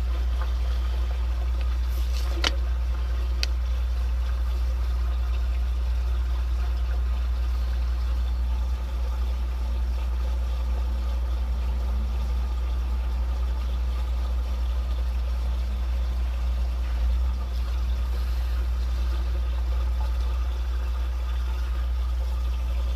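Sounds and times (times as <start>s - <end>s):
constant low rumble: 0.0s - 22.9s
water flowing through drain: 0.0s - 22.9s.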